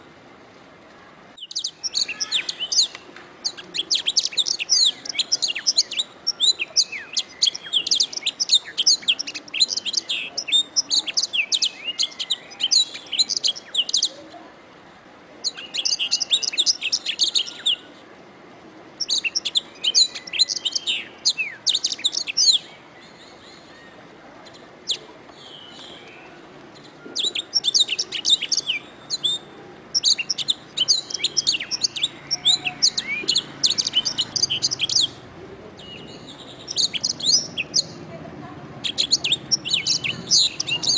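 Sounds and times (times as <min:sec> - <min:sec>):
canary singing trills: 0:01.4 - 0:14.3, 0:15.4 - 0:18.0, 0:19.0 - 0:40.9.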